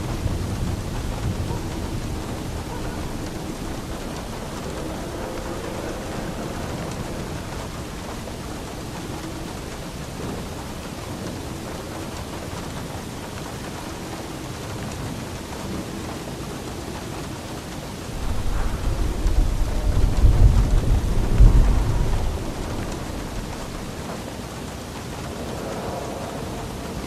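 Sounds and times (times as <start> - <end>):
steady rain: 0.0 - 27.0
thunder rumble: 0.0 - 27.0.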